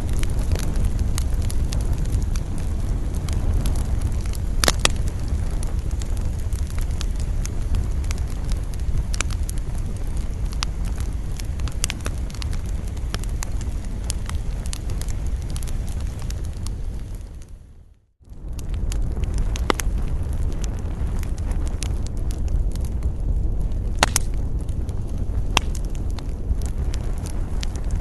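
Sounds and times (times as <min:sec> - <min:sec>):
campfire crackling and popping: 0:00.0 - 0:28.0
low wind rumble: 0:00.0 - 0:28.0.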